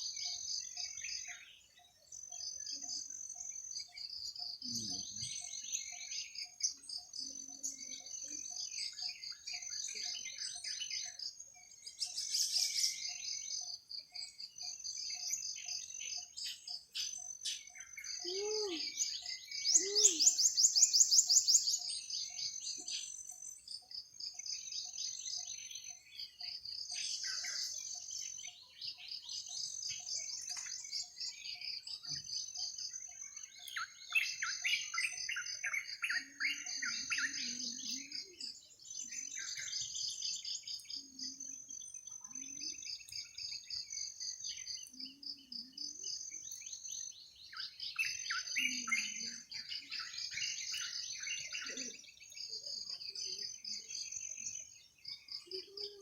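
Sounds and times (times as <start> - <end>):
birds chirping: 0.0 - 56.0
insects trilling chorus: 0.0 - 56.0.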